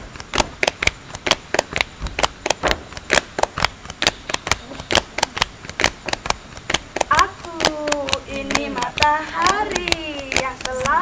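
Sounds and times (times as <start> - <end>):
fast sharp clicks: 0.0 - 11.0.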